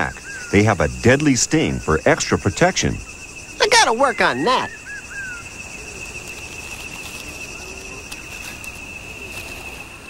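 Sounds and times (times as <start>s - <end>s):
insect trilling: 0.0s - 10.0s
low background hiss: 0.0s - 10.0s.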